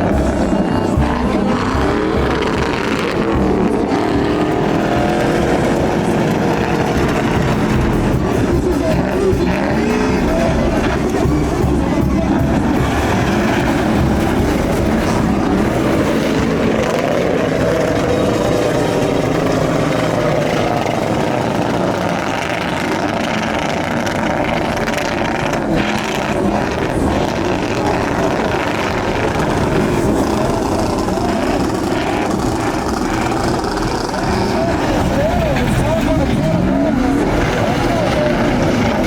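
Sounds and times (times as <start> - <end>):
vehicle engines revving: 0.0 - 39.0.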